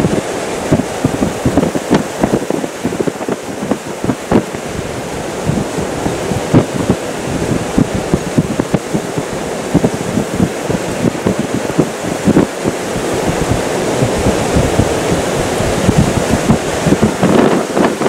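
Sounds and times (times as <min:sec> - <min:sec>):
wind buffeting microphone: 0:00.0 - 0:18.0
wind rushing: 0:00.0 - 0:18.0.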